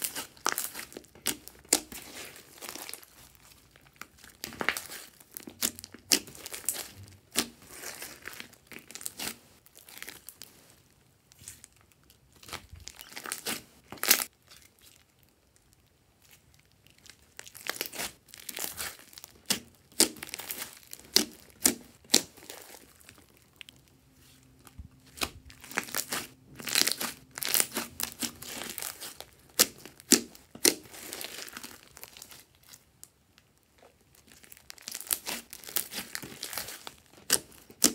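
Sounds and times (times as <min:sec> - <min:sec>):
slime crackling and popping: 0:00.0 - 0:10.5, 0:11.4 - 0:24.0, 0:24.6 - 0:37.9.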